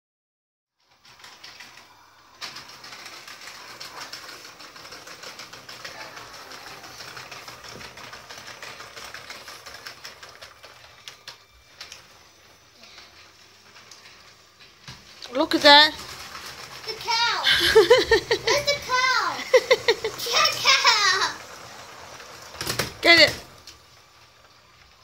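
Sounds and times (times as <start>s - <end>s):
toy train wheels clicking on track: 0.8s - 25.0s.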